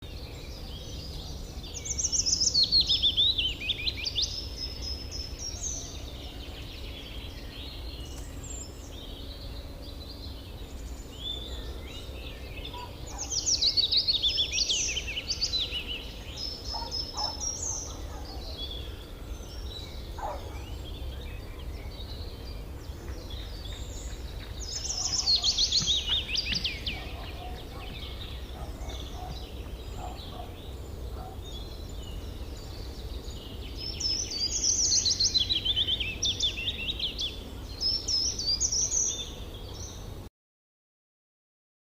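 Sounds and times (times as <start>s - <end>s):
birds chirping softly: 0.0s - 40.3s.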